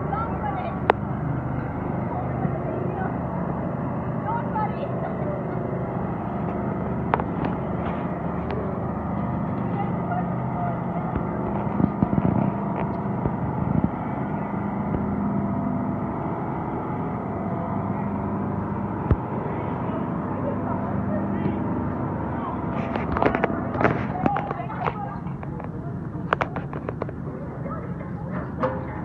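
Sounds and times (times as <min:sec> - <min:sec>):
outdoor background noise: 0:00.0 - 0:29.0
steady motor hum: 0:00.0 - 0:29.0.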